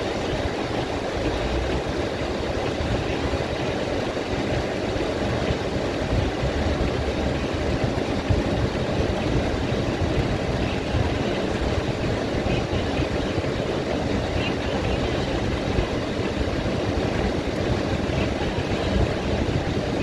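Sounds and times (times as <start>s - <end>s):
low rumble: 0.0s - 20.0s
rain on a car roof: 0.0s - 20.0s.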